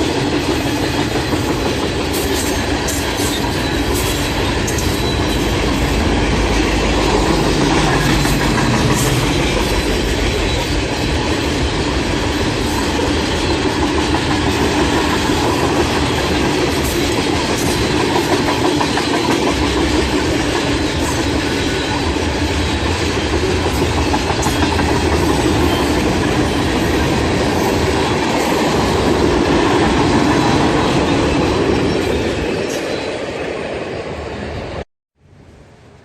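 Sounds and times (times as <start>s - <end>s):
train wheels clattering over rails: 0.0s - 33.1s.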